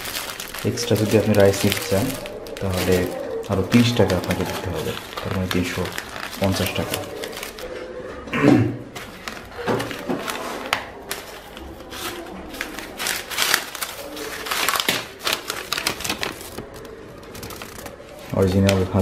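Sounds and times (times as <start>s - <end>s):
paper wrapper rustling: 0.0s - 7.9s, 8.9s - 19.0s.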